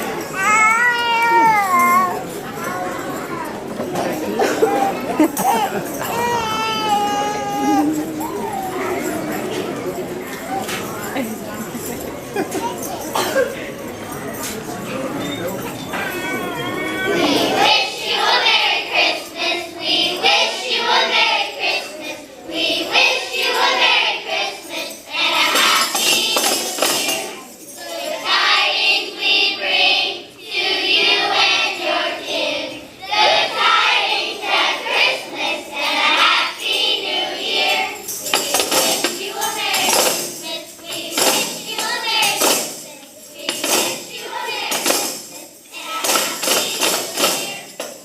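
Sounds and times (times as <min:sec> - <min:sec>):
children singing together: 0:00.0 - 0:09.2, 0:16.2 - 0:48.0
tambourines shaken and struck: 0:00.0 - 0:48.0.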